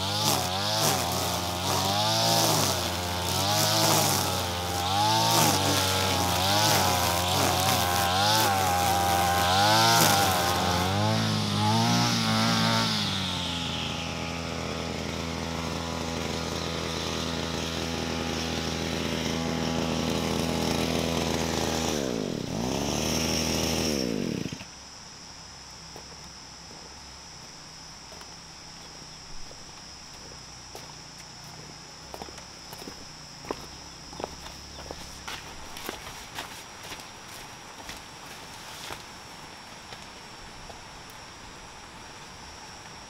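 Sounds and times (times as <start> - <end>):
brush cutter engine cutting grass: 0.0 - 24.9, 26.0 - 40.1.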